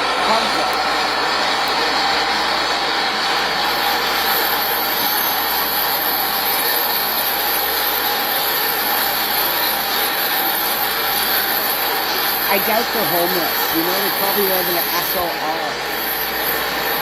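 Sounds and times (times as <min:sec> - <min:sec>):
thin high whine: 0:00.0 - 0:17.0
train car running noise: 0:00.0 - 0:17.0.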